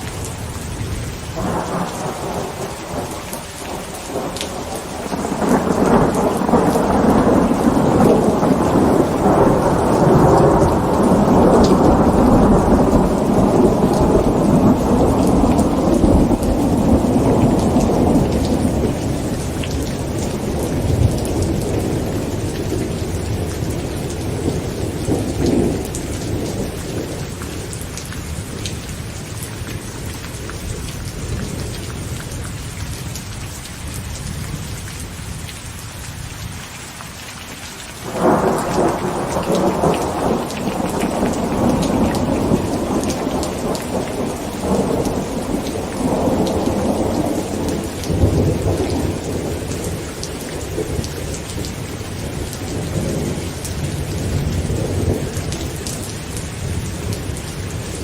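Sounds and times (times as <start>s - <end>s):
heavy rain on a tent: 0.0s - 58.0s
rolling thunder: 0.2s - 27.9s, 38.0s - 58.0s.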